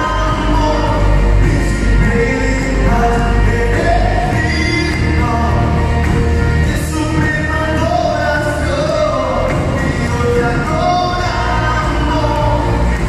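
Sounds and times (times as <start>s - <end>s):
person singing melody: 0.0s - 13.0s
strong bass: 0.0s - 13.0s
worship band with guitars: 0.0s - 13.0s.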